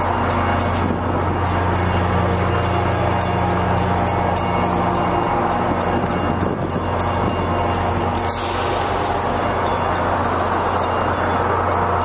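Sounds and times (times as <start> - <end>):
low train drone: 0.0 - 12.0
train coaches rolling on rails: 0.0 - 12.0.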